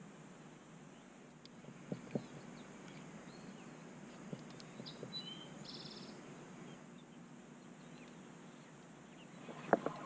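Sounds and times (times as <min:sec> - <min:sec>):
songbird chirps and trill: 0:00.5 - 0:10.0.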